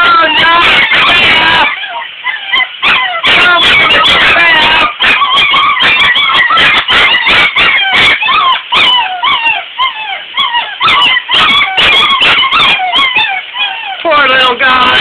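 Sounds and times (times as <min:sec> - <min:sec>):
puppies whining and yelping: 0:00.0 - 0:15.0.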